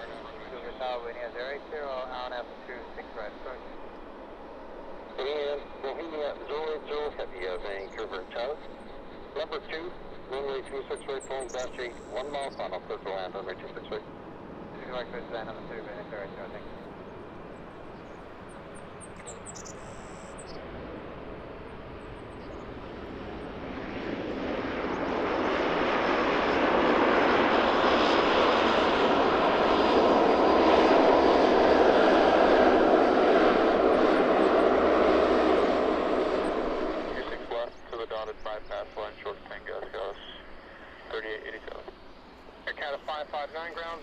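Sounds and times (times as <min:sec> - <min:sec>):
airliner engine rush: 0:00.0 - 0:44.0
faint high engine whine: 0:00.0 - 0:44.0.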